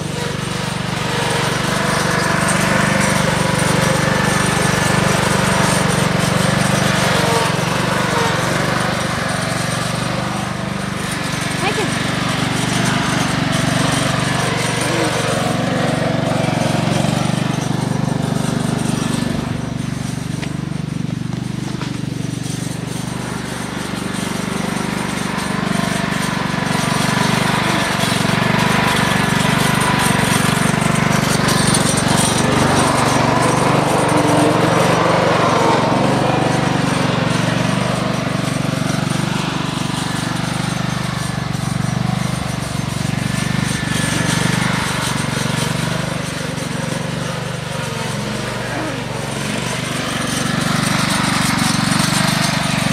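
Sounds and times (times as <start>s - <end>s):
riding lawn mower engine: 0.0s - 52.9s.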